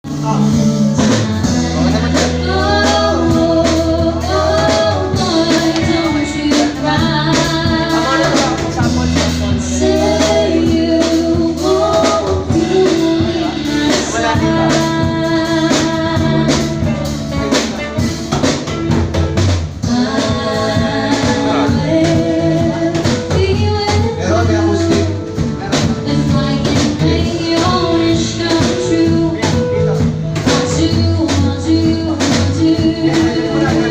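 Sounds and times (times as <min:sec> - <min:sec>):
person singing: 0:00.0 - 0:18.4, 0:19.8 - 0:33.9
drum kit: 0:00.0 - 0:33.9
guitar: 0:00.0 - 0:33.9
steady bass line: 0:00.0 - 0:33.9.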